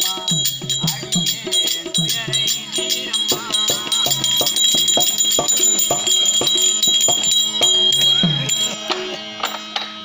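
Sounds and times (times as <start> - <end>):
drums in quick rhythm: 0.0 - 10.0
metallic bell-like ringing: 0.0 - 10.0.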